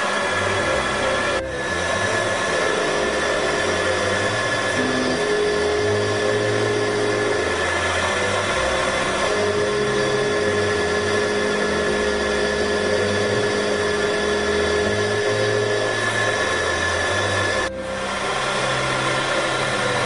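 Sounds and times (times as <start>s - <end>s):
milling spindle high whine: 0.0s - 20.0s
low hum changing pitch: 0.4s - 20.0s.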